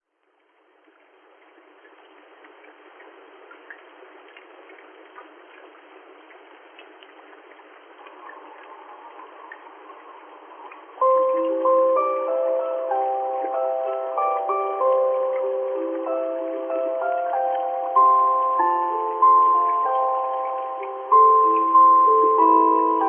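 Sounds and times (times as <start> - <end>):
raindrops ticking: 0.1 - 23.0
steady rain: 0.1 - 23.0.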